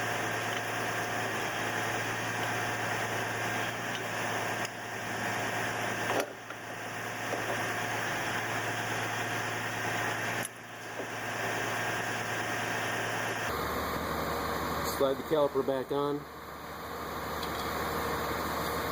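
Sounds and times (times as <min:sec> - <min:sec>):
machine hum with drone: 0:00.0 - 0:18.9.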